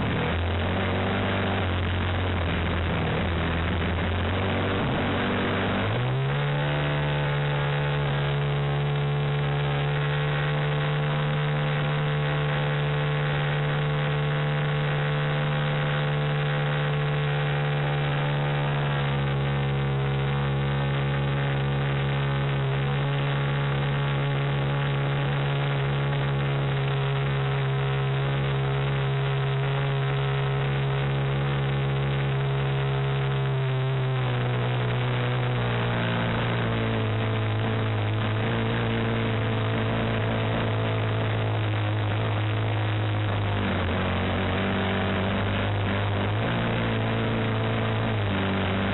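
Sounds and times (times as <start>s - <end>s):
model plane engine running: 0.0s - 48.9s.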